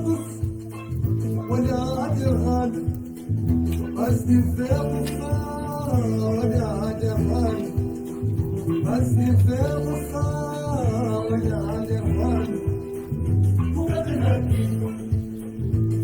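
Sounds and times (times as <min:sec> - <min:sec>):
person singing: 0:00.0 - 0:16.0
plucked string instruments: 0:00.0 - 0:16.0
pulsing bass: 0:00.0 - 0:16.0.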